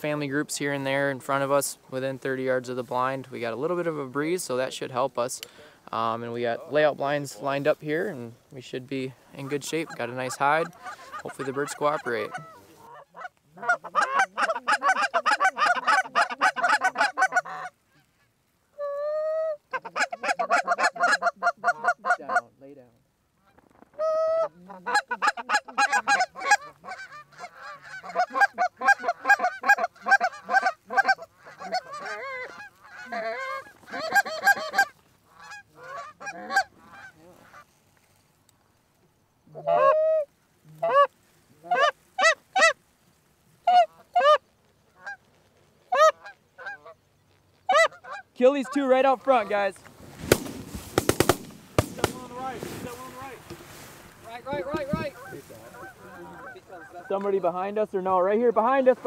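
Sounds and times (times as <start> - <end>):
geese honking: 9.3 - 22.6, 23.4 - 38.3, 39.4 - 59.0.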